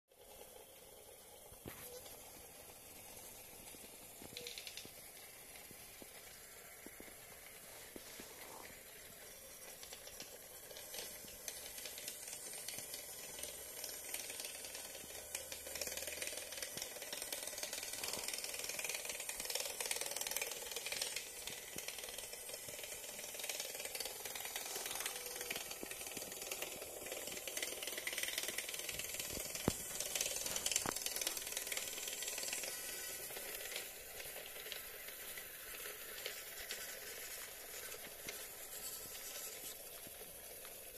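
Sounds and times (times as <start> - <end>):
toy monorail motor whirring and rattling: 0.1 - 40.9.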